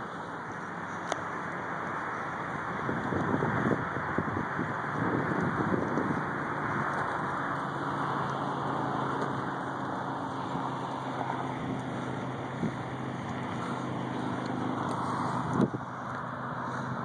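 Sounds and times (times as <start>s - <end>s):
distant freeway traffic hum: 0.0s - 17.0s.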